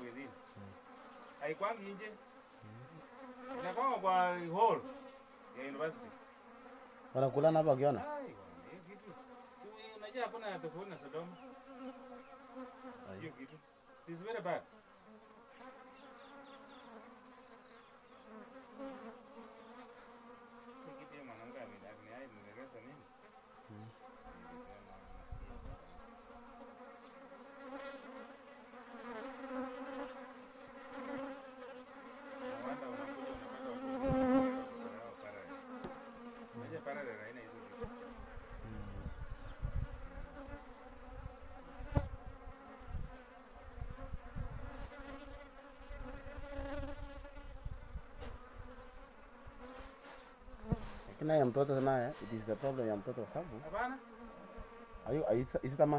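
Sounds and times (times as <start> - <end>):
bees buzzing: 0.0 - 55.9.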